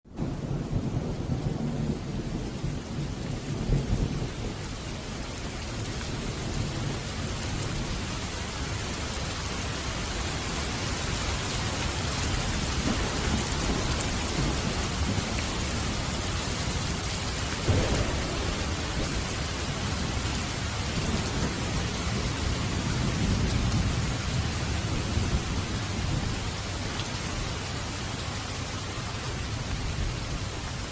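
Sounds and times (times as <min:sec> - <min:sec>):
heavy rain falling: 0:00.1 - 0:30.9
low rumble of thunder: 0:00.1 - 0:30.9.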